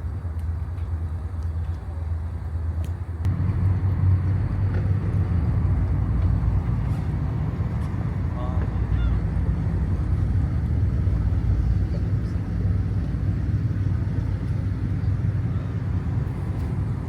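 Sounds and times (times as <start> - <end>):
boat engine low drone: 0.0 - 17.0.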